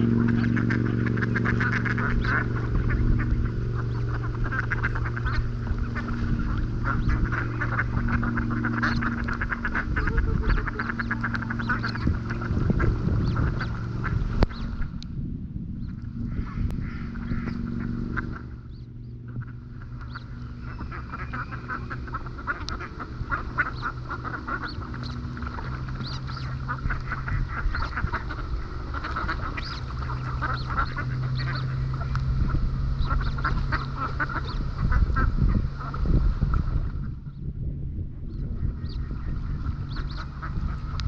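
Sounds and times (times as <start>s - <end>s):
soft nasal bird calls: 0.0s - 15.0s, 15.8s - 36.0s, 38.3s - 41.0s
birds pecking clicks: 0.0s - 15.1s, 15.8s - 35.2s
low hum: 0.0s - 41.0s.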